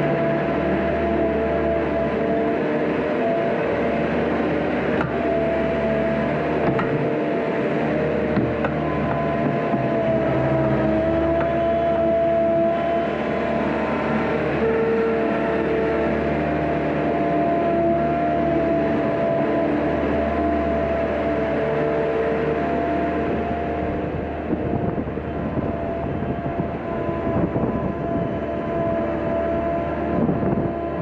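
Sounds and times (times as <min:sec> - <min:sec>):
loader engine running: 0:00.0 - 0:31.0
steady mechanical whine: 0:00.0 - 0:31.0.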